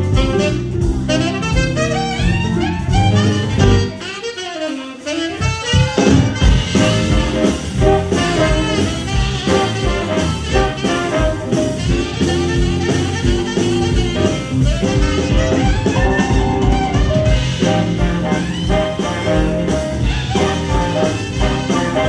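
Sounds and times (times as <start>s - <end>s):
horns playing: 0.0s - 22.0s
live blues band playing: 0.0s - 22.0s.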